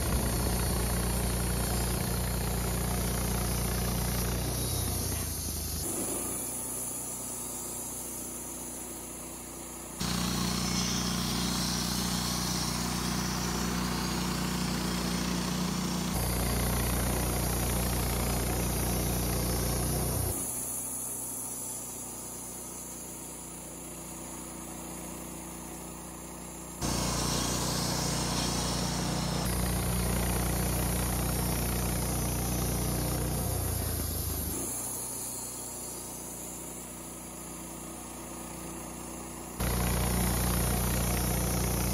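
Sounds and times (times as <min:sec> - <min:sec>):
band sawmill cutting log: 0:00.0 - 0:22.7, 0:26.8 - 0:41.9.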